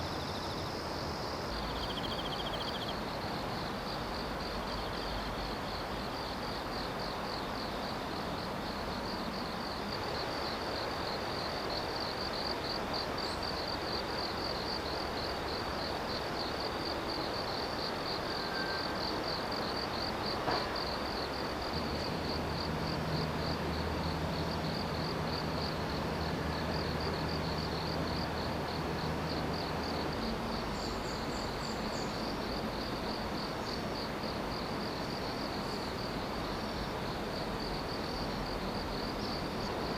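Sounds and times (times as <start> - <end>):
background hiss: 0.0 - 39.9
insects chirping: 0.0 - 39.9.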